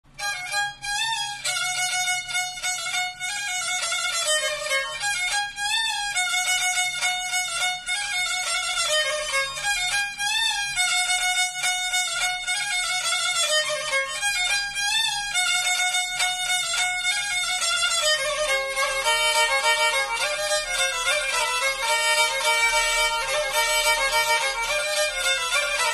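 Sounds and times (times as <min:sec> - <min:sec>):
bowed fiddle folk melody: 0:00.1 - 0:25.9.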